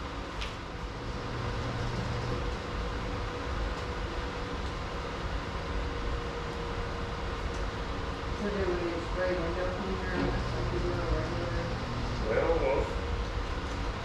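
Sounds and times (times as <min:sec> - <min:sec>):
faint steady hum: 0:00.0 - 0:14.0
machine rumbling and hissing: 0:00.0 - 0:14.0.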